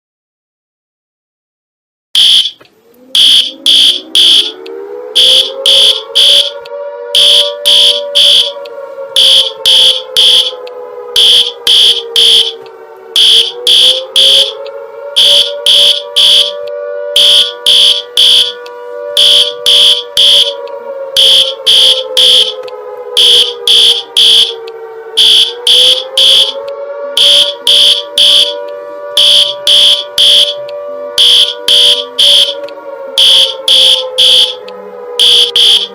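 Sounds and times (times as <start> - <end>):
high-pitched alarm beeps: 2.2 - 28.6, 29.2 - 32.6, 33.2 - 34.6, 35.2 - 35.9
low rising siren tone: 2.2 - 35.9.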